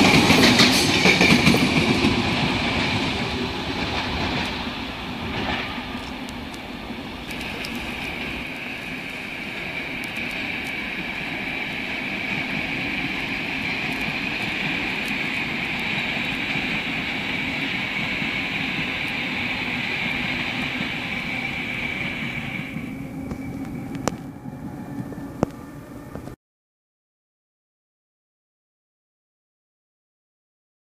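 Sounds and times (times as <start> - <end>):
electric train rushing past: 0.0 - 26.4.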